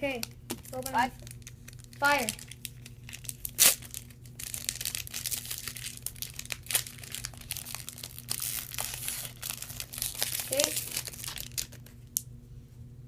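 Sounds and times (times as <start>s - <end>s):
foil wrapper crinkling and tearing: 0.5s - 12.2s.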